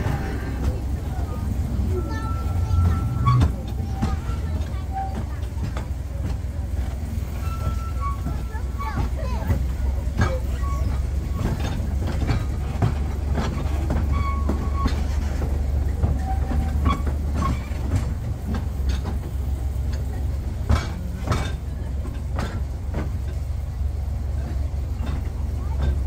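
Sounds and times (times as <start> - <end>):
train rumbling on track: 0.0 - 26.0
wheels clacking over rail joints: 0.0 - 26.0.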